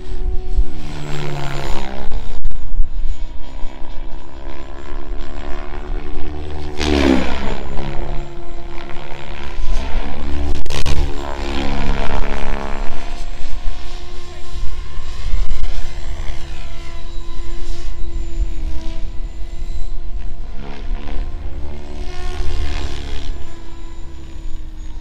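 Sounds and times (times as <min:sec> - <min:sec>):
rc helicopter motor and rotor whine: 0:00.0 - 0:25.0.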